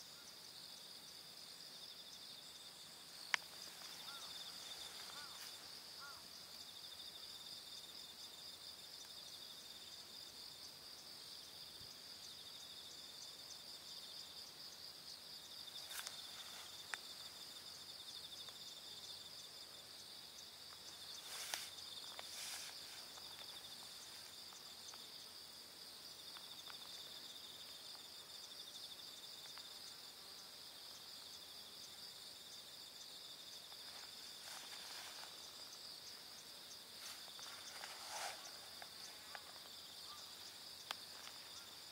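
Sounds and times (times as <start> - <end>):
insects trilling: 0.0 - 41.9.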